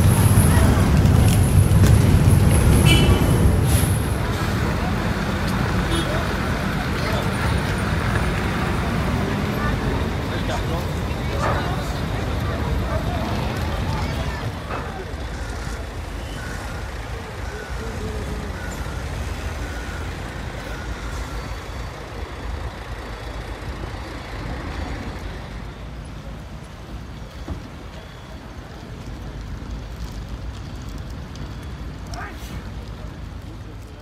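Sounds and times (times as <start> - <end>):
heavy vehicles rumbling: 0.0 - 34.0.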